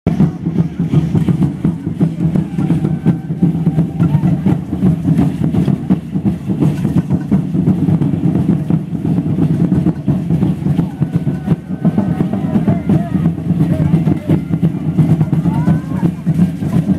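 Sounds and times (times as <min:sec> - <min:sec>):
large drums beating rapidly: 0:00.1 - 0:16.9.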